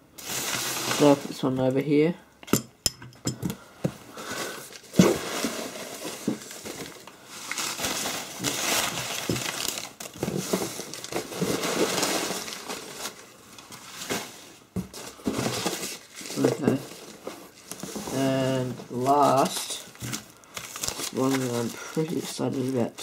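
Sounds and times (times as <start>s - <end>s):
paper crumpling and rustling: 0.2s - 1.5s, 4.6s - 23.0s.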